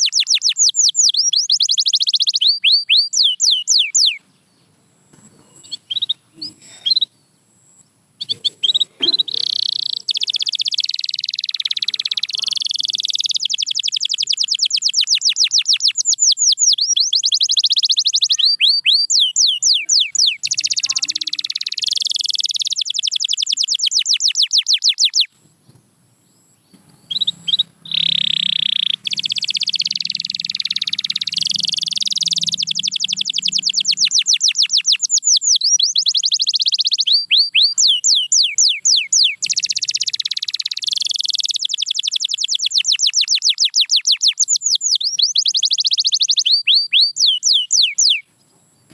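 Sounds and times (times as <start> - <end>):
canary singing trills: 0.0 - 25.4, 26.3 - 48.9.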